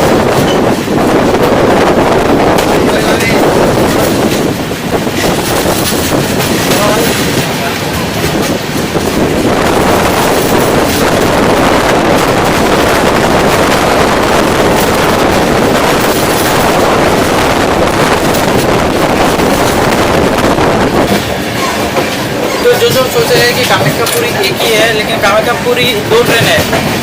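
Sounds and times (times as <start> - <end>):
train carriage rumble: 0.0 - 27.0
wind buffeting microphone: 0.0 - 27.0.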